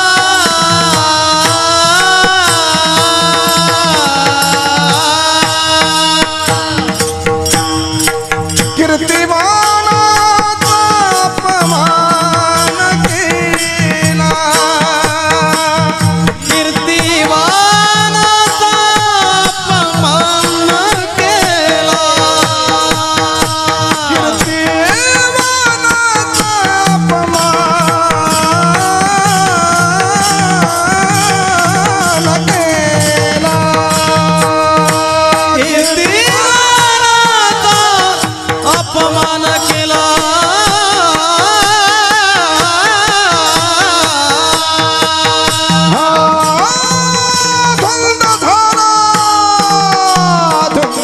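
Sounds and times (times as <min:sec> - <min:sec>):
man singing devotional song: 0:00.0 - 0:51.0
regular drum beat: 0:00.0 - 0:51.0.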